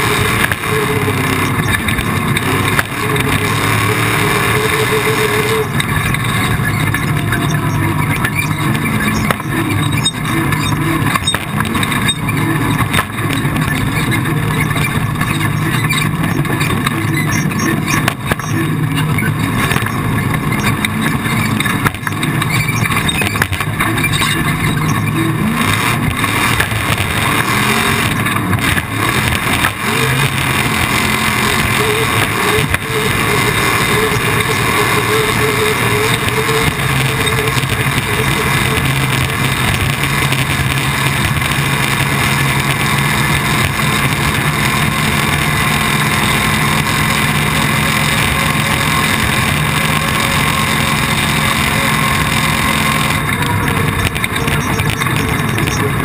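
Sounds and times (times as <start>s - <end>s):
constant rush of noise: 0.0s - 56.0s
race vehicle engine revving: 0.0s - 56.0s.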